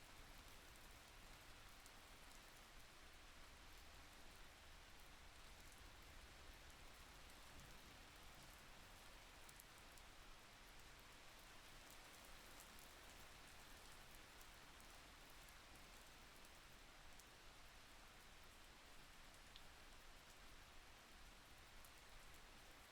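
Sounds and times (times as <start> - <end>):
faint steady rain: 0.0 - 22.9.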